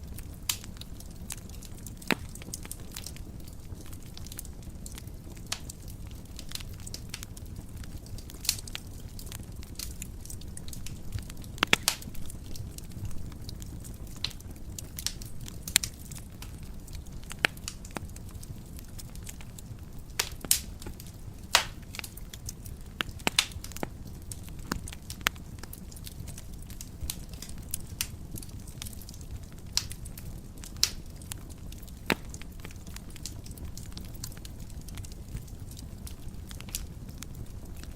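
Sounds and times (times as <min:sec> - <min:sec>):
fire flames rumbling: 0:00.0 - 0:37.9
wood fire crackling and popping: 0:00.0 - 0:37.9.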